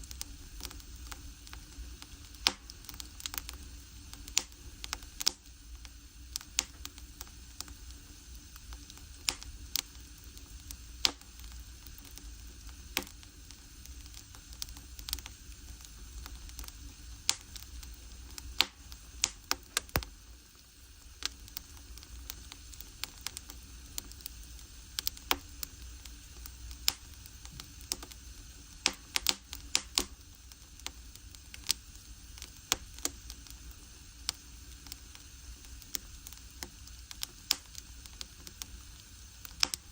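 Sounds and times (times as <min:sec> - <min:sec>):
fire low rumble: 0:00.0 - 0:39.9
firewood crackling and popping: 0:00.0 - 0:39.9.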